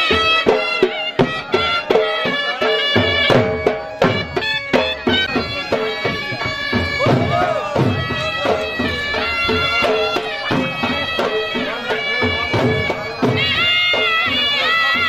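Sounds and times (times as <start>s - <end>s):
reedy wind instrument melody: 0.0s - 15.0s
regular drum beat: 0.0s - 15.0s.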